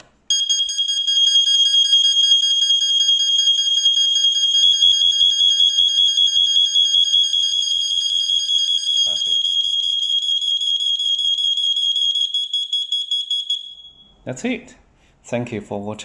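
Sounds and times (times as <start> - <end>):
smoke alarm high-pitched tone: 0.3 - 14.2.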